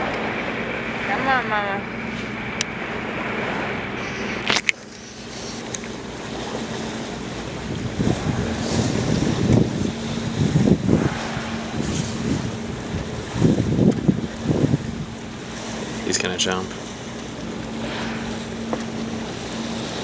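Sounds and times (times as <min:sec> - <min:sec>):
boat engine hum: 0:00.0 - 0:20.0
sea washing: 0:00.0 - 0:20.0
wind buffeting microphone: 0:00.0 - 0:20.0.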